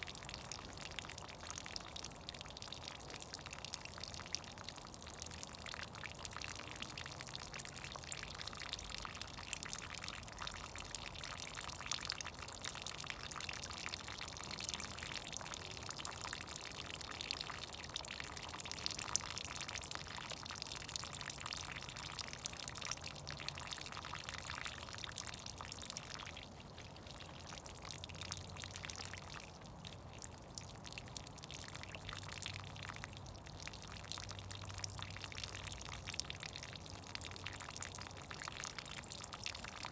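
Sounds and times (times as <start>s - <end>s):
melting snow dripping: 0.0s - 39.9s.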